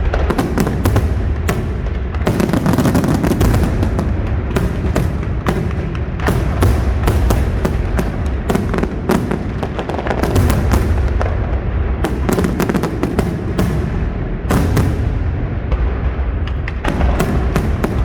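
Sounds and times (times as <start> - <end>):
fireworks cracks and bangs: 0.0 - 18.0.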